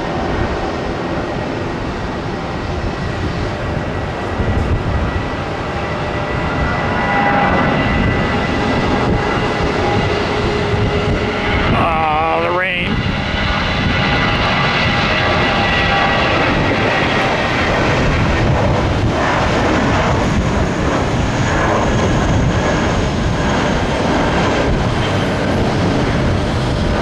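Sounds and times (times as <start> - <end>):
jet engine high whine: 0.0 - 27.0
jet engine roar: 0.0 - 27.0.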